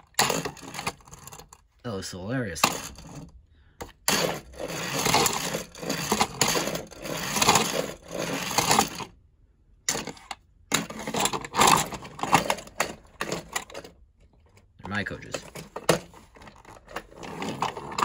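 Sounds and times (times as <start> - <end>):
plastic toy train clattering: 0.0 - 1.6, 2.6 - 9.1, 9.9 - 18.0.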